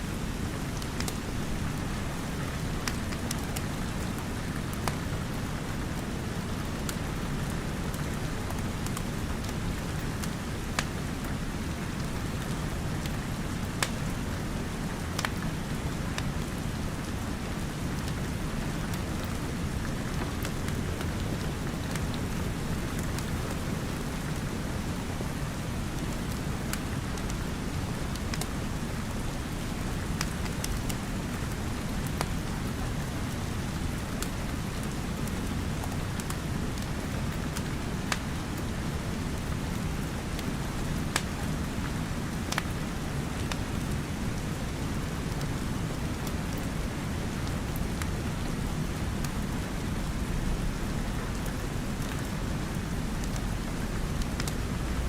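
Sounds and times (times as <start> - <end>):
steady rain: 0.0 - 55.0
wood fire crackling: 0.1 - 32.7, 33.4 - 55.0.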